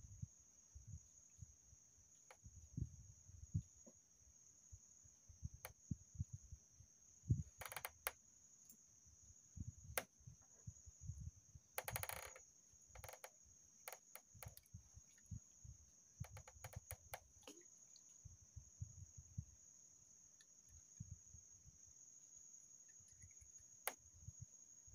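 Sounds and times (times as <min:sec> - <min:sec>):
insects droning: 0:00.0 - 0:24.9.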